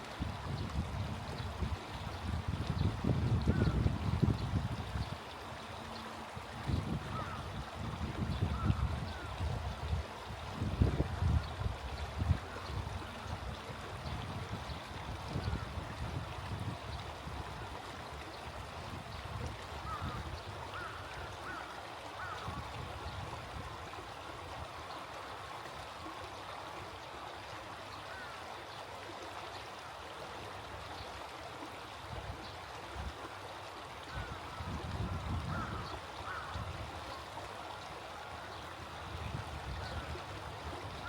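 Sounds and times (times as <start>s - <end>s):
stream running: 0.0s - 41.0s
water birds calling: 0.0s - 41.0s.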